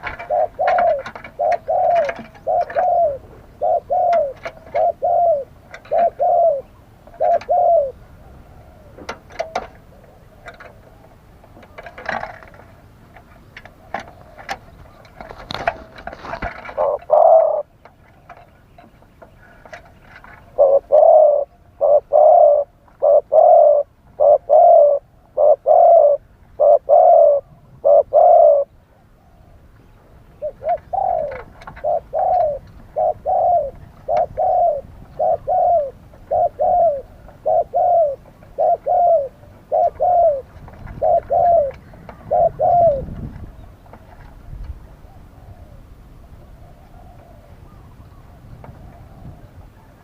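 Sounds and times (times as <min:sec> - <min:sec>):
doves cooing: 0:00.0 - 0:50.0.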